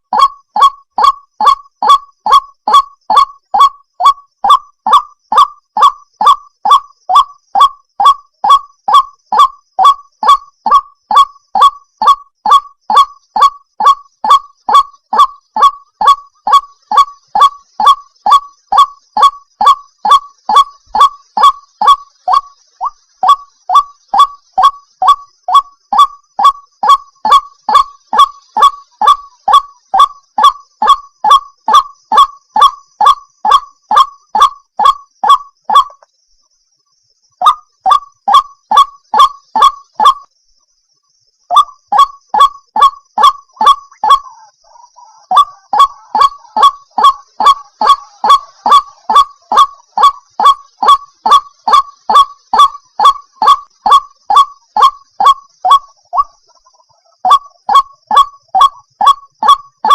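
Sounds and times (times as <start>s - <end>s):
bird croaking calls: 0.0s - 36.1s, 37.2s - 40.3s, 41.5s - 59.9s.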